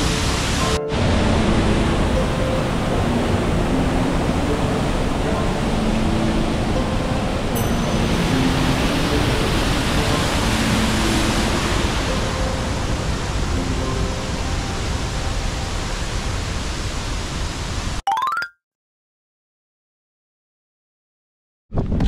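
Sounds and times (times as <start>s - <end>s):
stream rapids rushing: 0.0s - 18.0s.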